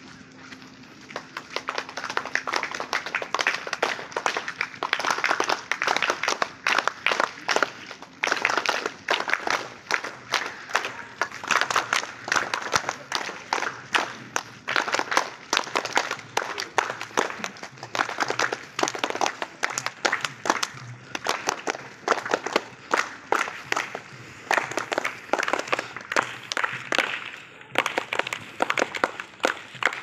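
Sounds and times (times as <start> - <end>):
group of people clapping: 0.4 - 30.0.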